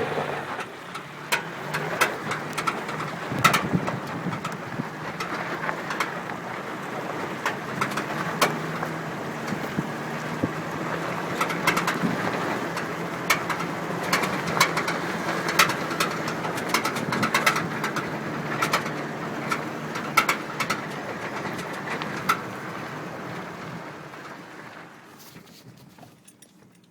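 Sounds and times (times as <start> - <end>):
vehicle low hum: 0.0 - 26.8
sharp clicks and rattles: 0.4 - 22.7.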